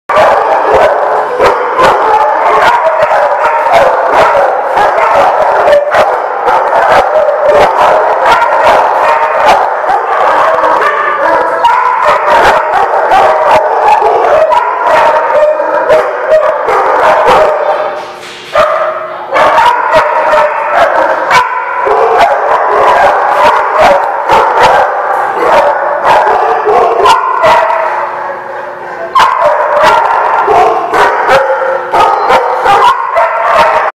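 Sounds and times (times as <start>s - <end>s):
dogs barking and yipping: 0.1s - 34.0s.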